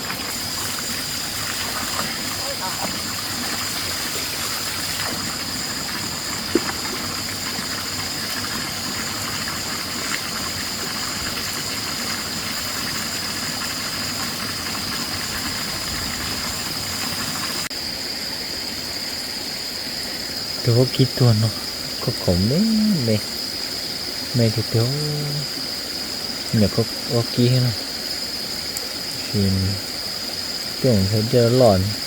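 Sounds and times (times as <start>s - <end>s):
insect drone: 0.0s - 32.0s
stream water running: 0.0s - 32.0s.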